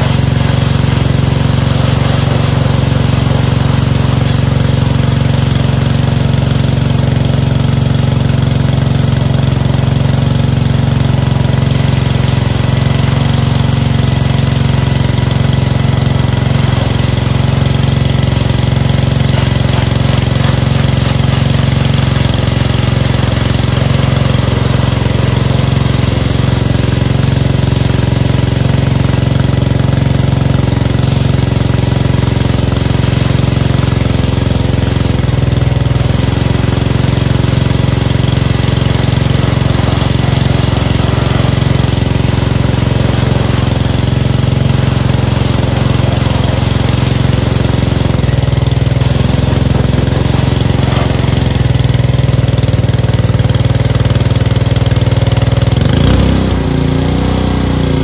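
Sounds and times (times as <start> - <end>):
pressure washer engine running: 0.0 - 58.0.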